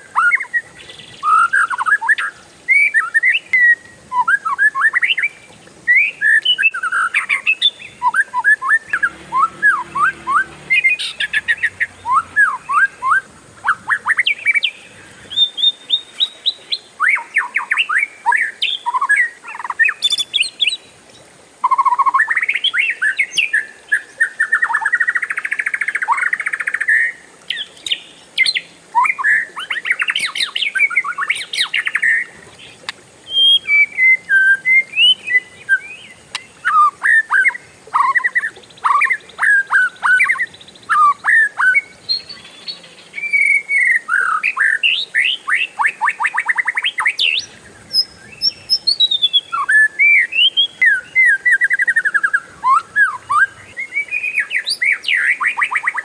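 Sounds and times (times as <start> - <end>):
bird singing whistled trills: 0.0 - 20.9, 21.6 - 56.0.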